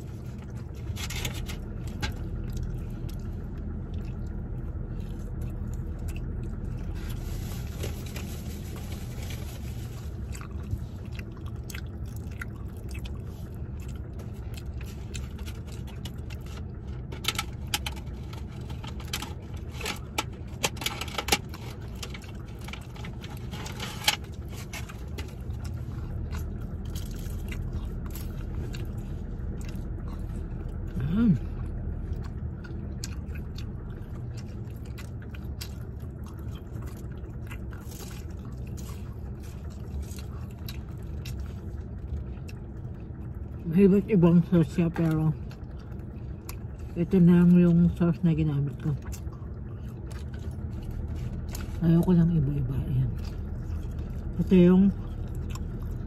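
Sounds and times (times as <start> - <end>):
person chewing food: 0.0 - 43.6, 45.0 - 47.0, 48.7 - 51.8, 53.1 - 56.0
low car cabin hum: 0.0 - 56.0.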